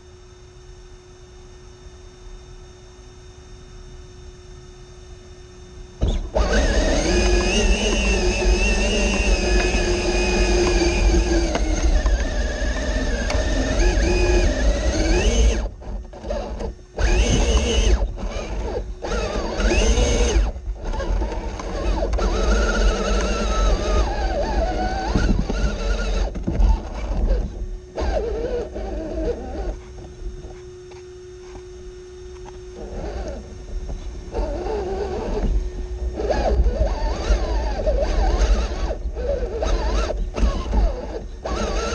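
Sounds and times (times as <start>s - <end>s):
electric motor and gears whining: 0.0s - 41.9s
low drivetrain rumble: 6.0s - 41.9s.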